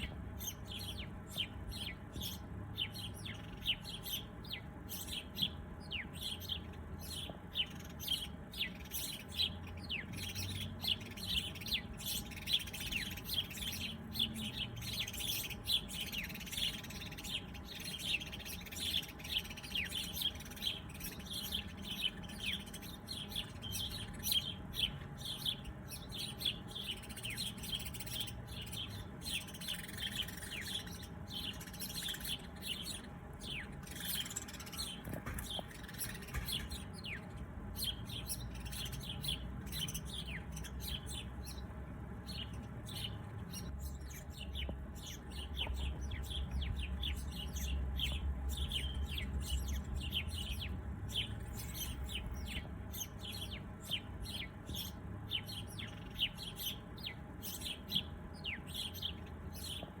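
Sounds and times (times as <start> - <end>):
low background rumble: 0.0 - 60.0
songbirds chirping: 0.0 - 60.0.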